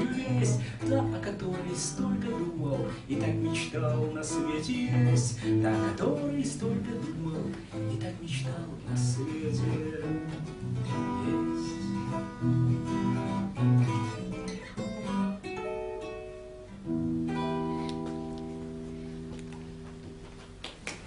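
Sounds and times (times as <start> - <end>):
acoustic guitar playing: 0.0 - 20.6.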